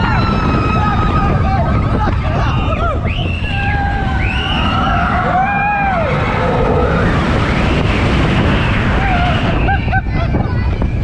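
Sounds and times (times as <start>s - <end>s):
riders screaming and whooping: 0.0s - 11.0s
roller coaster rumbling on track: 0.0s - 11.0s
wind on microphone: 0.0s - 11.0s.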